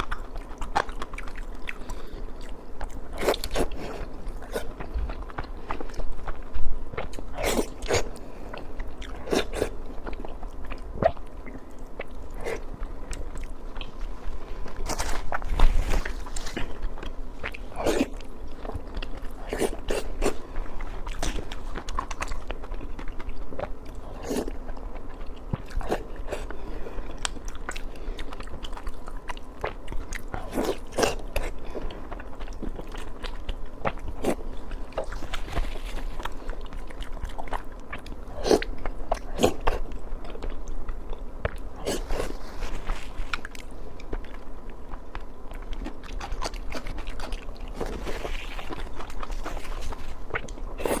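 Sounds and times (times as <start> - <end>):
biting and chewing: 0.0 - 51.0.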